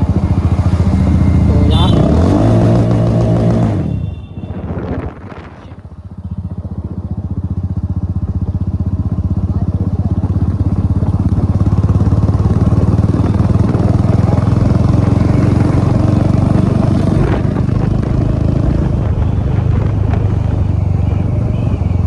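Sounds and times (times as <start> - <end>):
motorcycle engine running steadily: 0.0 - 2.3, 3.0 - 22.0.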